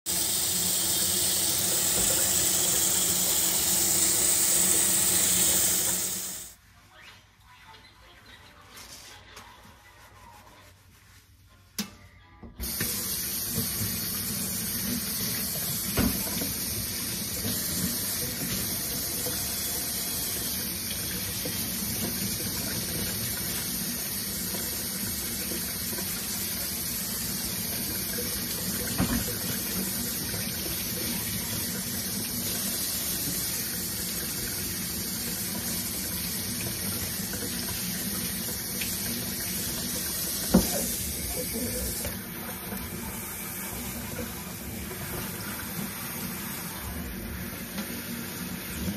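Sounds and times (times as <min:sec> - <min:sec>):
faucet water running: 0:00.0 - 0:06.6, 0:12.6 - 0:48.9.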